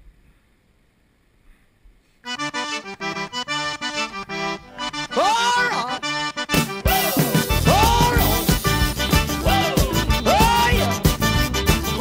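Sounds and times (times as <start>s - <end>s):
accordion music with rhythmic chords: 2.3s - 12.0s.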